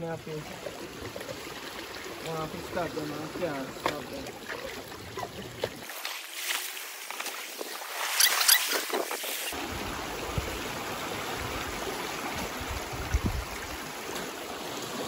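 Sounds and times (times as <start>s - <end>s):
seawater washing around rocks: 0.0s - 15.0s
water splashes: 0.0s - 15.0s.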